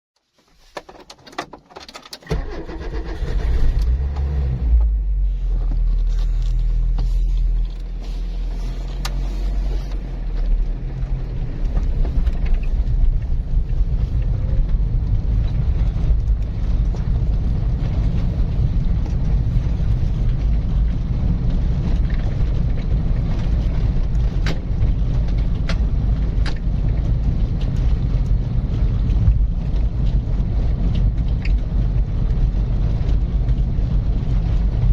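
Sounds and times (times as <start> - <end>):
car engine starting and idling: 0.5 - 34.9.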